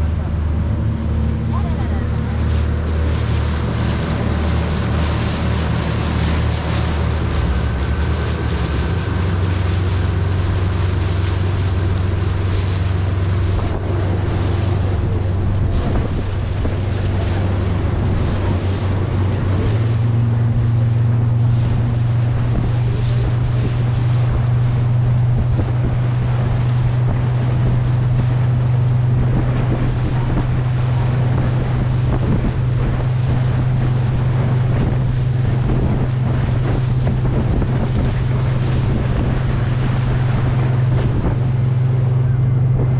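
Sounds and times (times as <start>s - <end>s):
boat engine running: 0.0s - 42.9s
water rushing: 0.0s - 42.9s
wind buffeting microphone: 0.0s - 42.9s.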